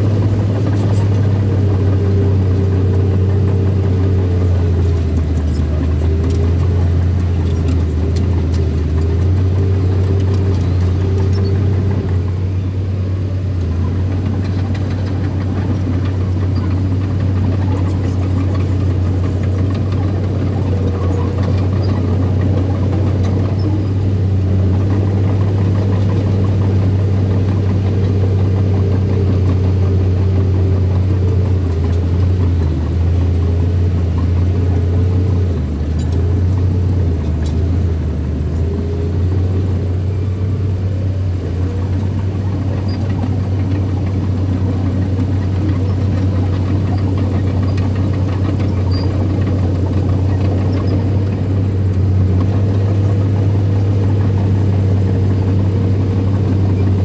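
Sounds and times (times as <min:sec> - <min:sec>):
bulldozer engine humming: 0:00.0 - 0:57.0.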